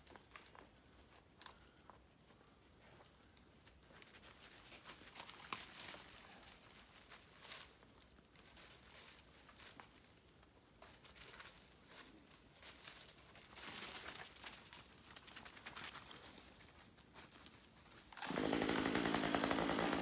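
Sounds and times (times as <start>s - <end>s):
faint rustling and crinkling: 0.0s - 18.2s.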